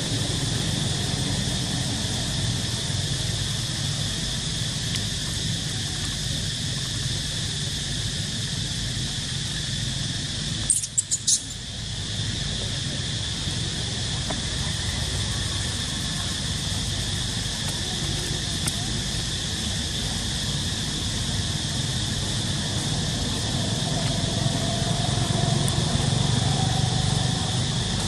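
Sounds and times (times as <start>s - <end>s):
insects droning: 0.0s - 28.0s
low background rumble: 0.0s - 28.0s.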